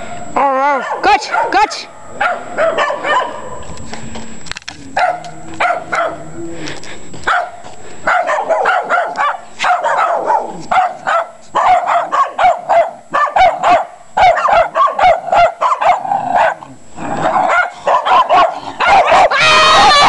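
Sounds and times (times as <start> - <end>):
small dogs yapping: 0.8 - 3.6, 5.0 - 6.2, 7.2 - 20.0.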